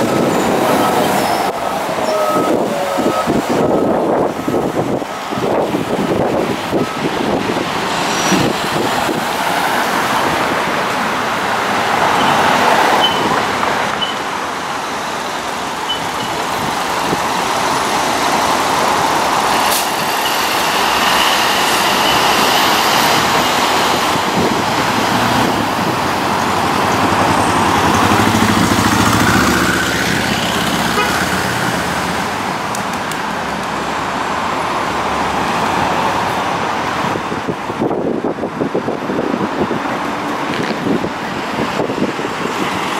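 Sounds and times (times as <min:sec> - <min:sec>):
cars driving past: 0:00.0 - 0:14.5, 0:15.8 - 0:42.9
truck engine: 0:00.0 - 0:42.9.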